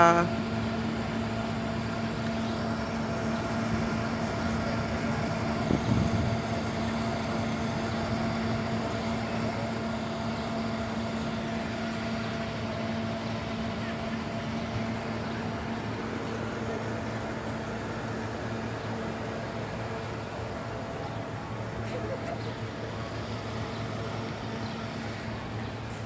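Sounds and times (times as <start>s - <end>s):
car engines idling: 0.0s - 26.0s.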